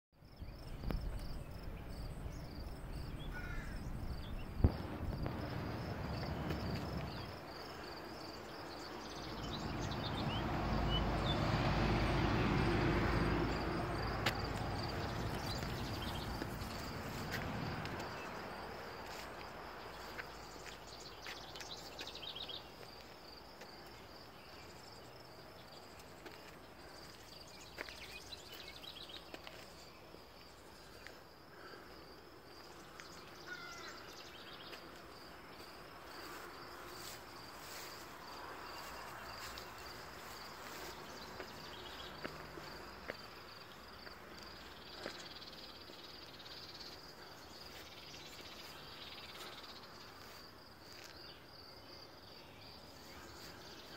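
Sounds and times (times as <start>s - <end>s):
high insect trill: 0.3s - 11.4s, 12.8s - 53.9s.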